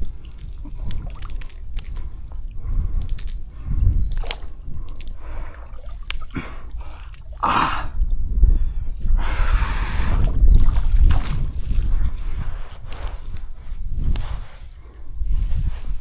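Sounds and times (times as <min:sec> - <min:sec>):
water splashing in shallows: 0:00.0 - 0:08.3, 0:09.2 - 0:16.0
wind buffeting microphone: 0:00.0 - 0:16.0.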